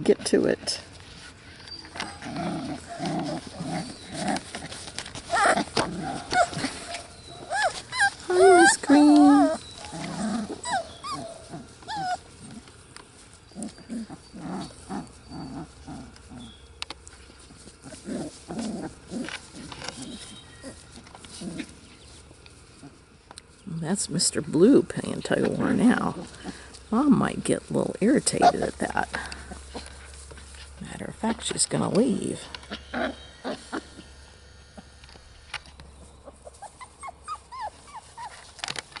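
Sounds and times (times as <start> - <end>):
puppies play growling: 0.6 - 23.6, 24.4 - 39.0.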